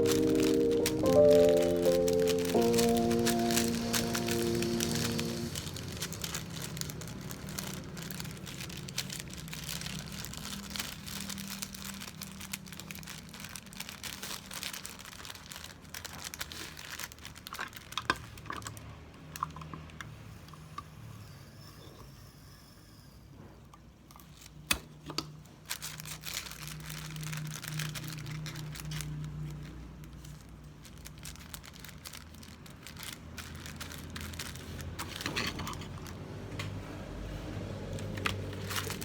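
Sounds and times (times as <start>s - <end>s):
packaging crinkling and rustling: 0.0s - 19.9s, 24.2s - 39.0s.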